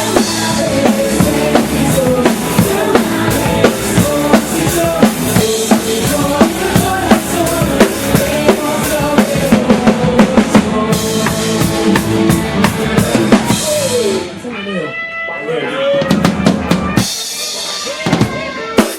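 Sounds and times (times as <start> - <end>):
band playing loud music: 0.0 - 18.9.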